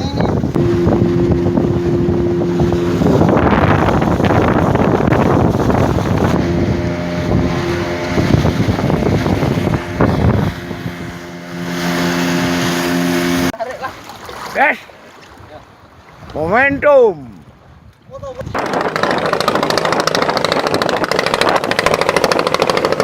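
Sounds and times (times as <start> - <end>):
outboard engine running: 0.0 - 14.7, 18.4 - 23.0
rushing wind and water: 0.0 - 23.0.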